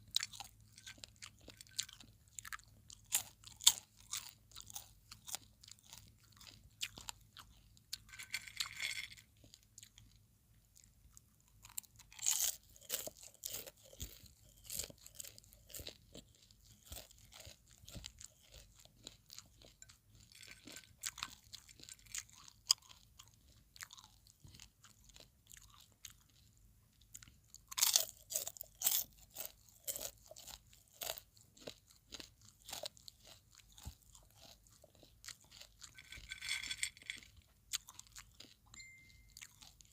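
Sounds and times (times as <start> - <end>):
popcorn chewing crunch: 0.0 - 39.9.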